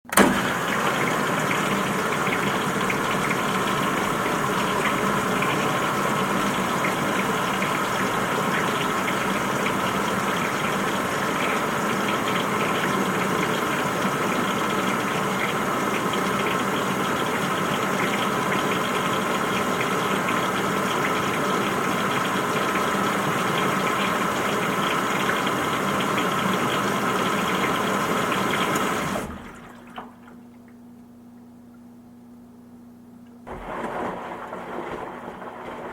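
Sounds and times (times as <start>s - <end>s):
washing machine running: 0.0s - 35.9s.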